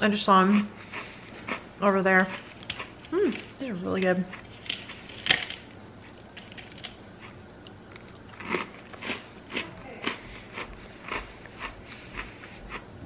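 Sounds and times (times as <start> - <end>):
person chewing crunchy cookie: 0.5 - 13.0.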